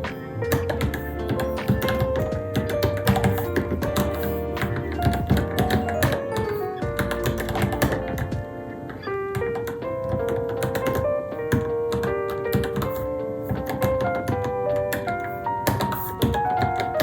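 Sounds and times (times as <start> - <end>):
background music with sustained notes: 0.0 - 17.0
mechanical keyboard typing: 0.5 - 8.4, 9.3 - 17.0.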